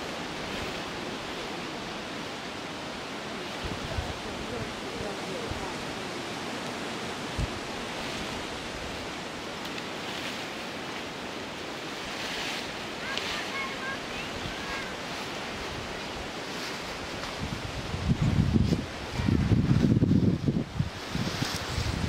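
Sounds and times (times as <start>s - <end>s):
wind rushing through grass and trees: 0.0s - 22.0s.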